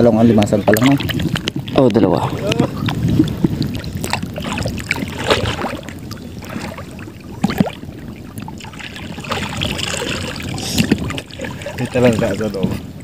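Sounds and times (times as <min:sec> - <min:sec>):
sharp water splashes: 0:00.0 - 0:12.6
sea water sloshing and lapping: 0:00.0 - 0:13.0.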